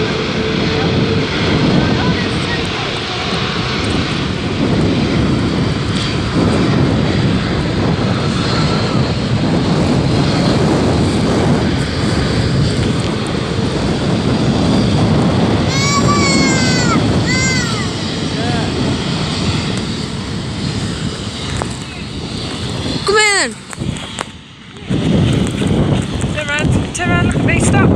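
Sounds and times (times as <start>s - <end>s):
jet engines running: 0.0s - 27.9s.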